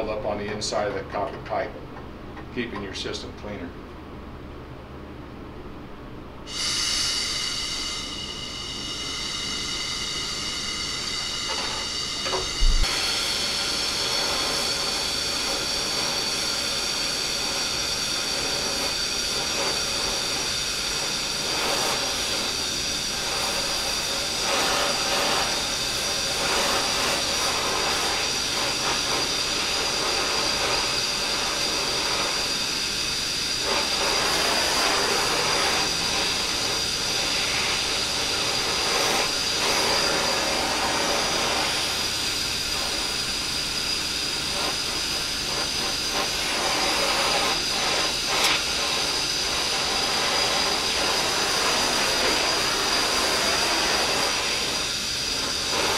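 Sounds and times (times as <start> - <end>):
torch flame hissing: 6.4 - 55.9.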